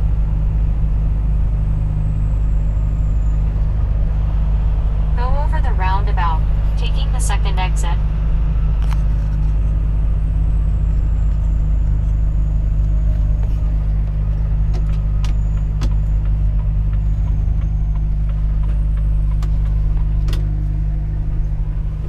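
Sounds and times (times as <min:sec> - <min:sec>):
diesel truck engine droning: 0:00.0 - 0:22.0
road noise: 0:00.0 - 0:22.0.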